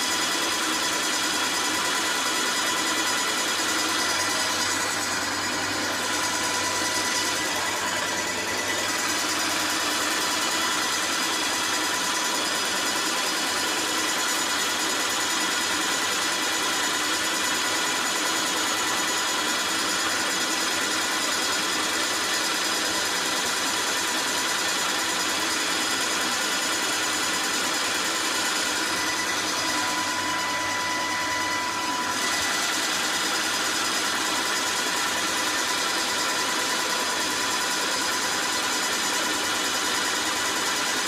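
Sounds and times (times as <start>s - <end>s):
paint sprayer pump whine: 0.0s - 41.0s.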